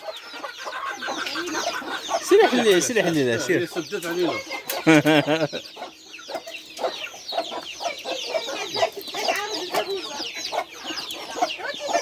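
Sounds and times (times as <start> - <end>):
chicks peeping: 0.0 - 12.0
hens clucking: 0.0 - 12.0.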